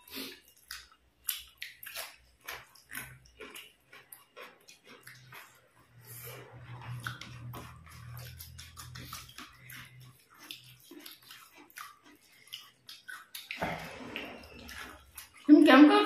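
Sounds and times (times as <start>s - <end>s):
lip smacks: 0.0s - 15.5s
wet chewing: 0.0s - 16.0s.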